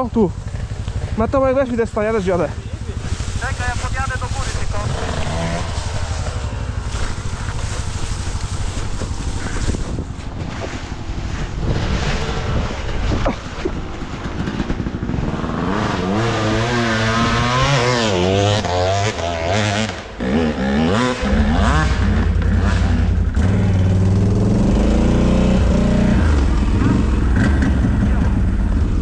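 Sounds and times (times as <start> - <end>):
quad engine revving: 0.0 - 29.0.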